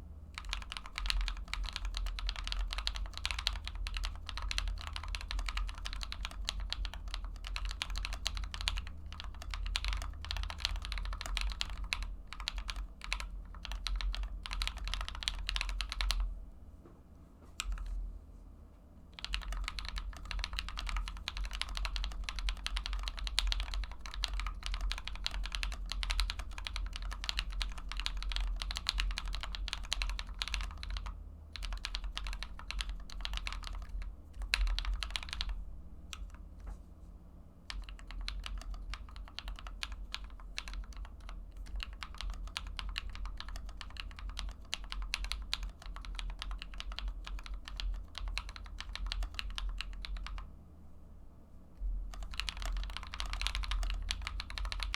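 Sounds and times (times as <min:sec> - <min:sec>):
mechanical keyboard typing: 0:00.4 - 0:16.3, 0:17.6 - 0:17.9, 0:19.2 - 0:36.4, 0:37.7 - 0:50.5, 0:52.1 - 0:54.9.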